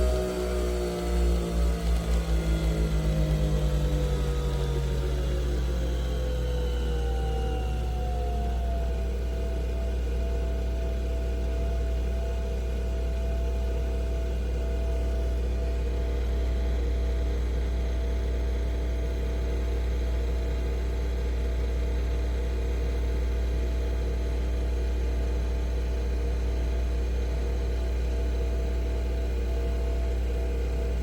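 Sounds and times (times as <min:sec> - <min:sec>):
coffee machine motor humming: 0:00.0 - 0:31.0.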